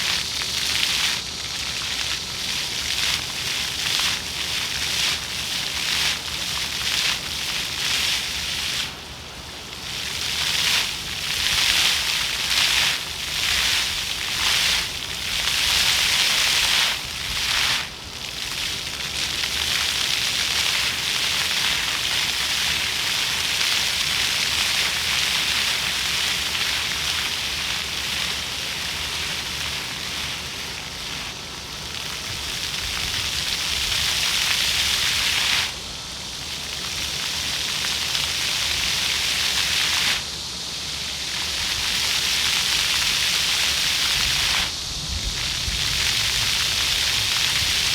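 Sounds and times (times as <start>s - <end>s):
fountain water splashing: 0.0s - 47.9s.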